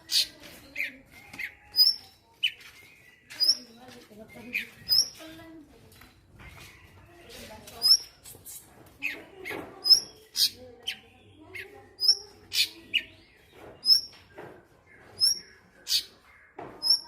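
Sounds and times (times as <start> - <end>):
bird song with sharp chirps: 0.0 - 17.0.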